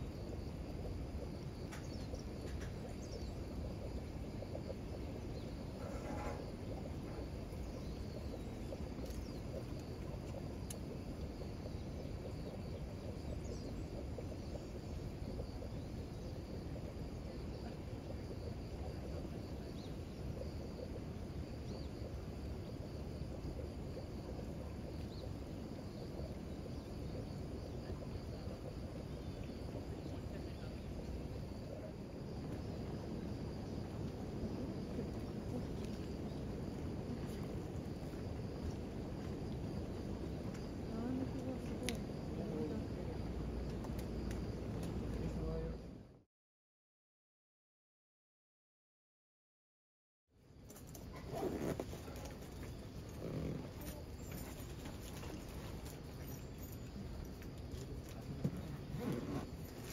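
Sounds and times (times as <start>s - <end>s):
insects chirring: 0.0s - 46.1s, 50.4s - 59.9s.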